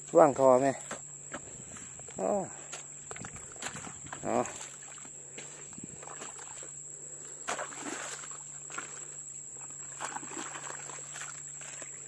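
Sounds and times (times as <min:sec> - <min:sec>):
high insect trill: 0:00.0 - 0:12.0
low steady hum: 0:00.0 - 0:12.0.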